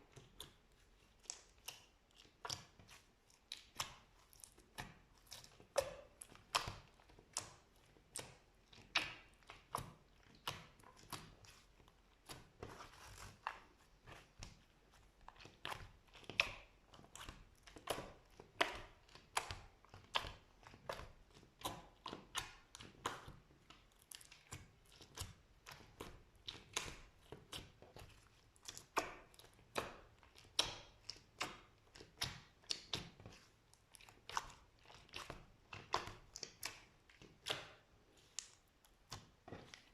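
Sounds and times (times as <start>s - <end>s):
slime clicking and crunching: 0.1s - 39.9s.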